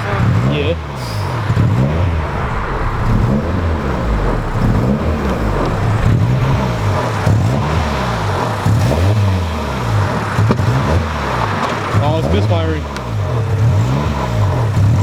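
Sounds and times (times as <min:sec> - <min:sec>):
car engine misfiring: 0:00.0 - 0:15.0.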